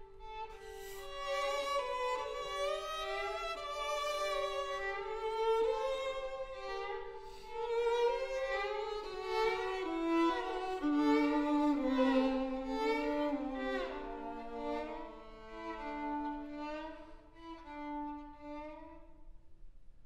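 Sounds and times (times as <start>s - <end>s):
violin duet: 0.0s - 19.4s.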